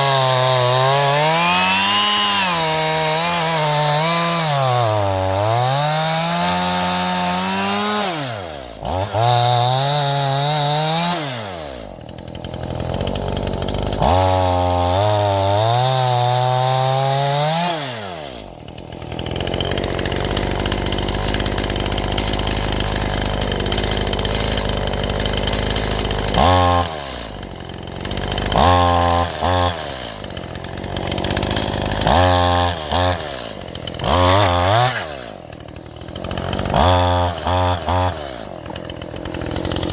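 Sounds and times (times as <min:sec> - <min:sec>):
chainsaw cutting firewood: 0:00.0 - 0:39.9
chainsaw revving: 0:00.0 - 0:39.9.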